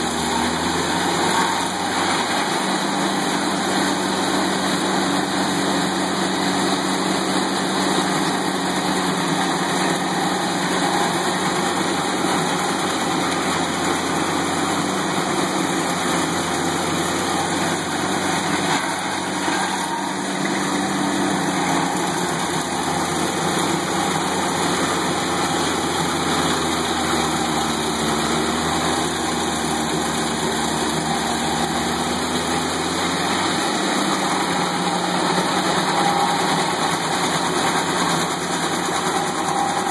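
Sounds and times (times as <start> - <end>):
cutter wheel grinding stump: 0.0 - 39.9
stump grinder engine running: 0.0 - 39.9.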